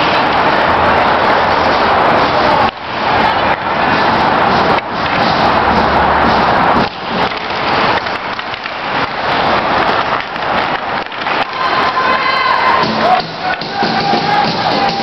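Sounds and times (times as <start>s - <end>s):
hockey sticks and puck clacking: 0.0s - 15.0s.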